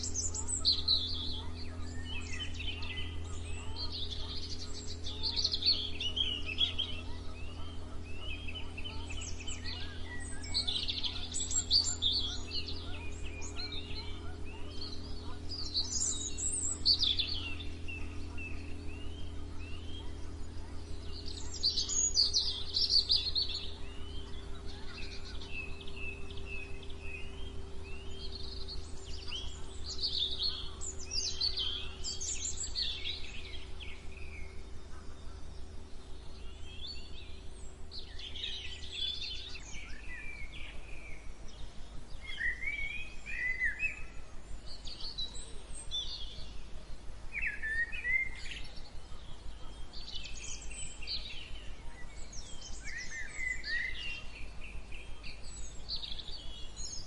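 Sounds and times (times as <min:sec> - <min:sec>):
songbirds singing: 0:00.0 - 0:57.0
steady low hum: 0:00.0 - 0:57.0.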